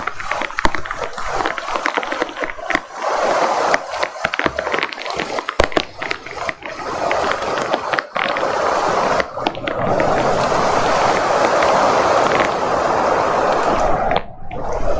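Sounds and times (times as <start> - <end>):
heavy rain pouring: 0.0 - 14.3
raindrop clicks: 0.0 - 14.9.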